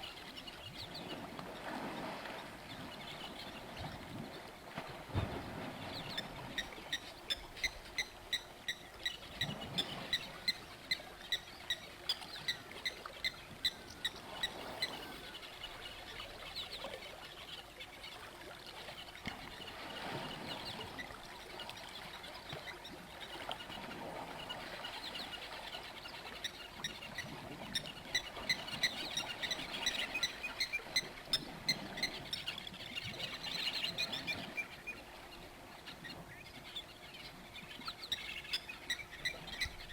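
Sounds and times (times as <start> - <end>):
faint natural background: 0.0 - 39.9.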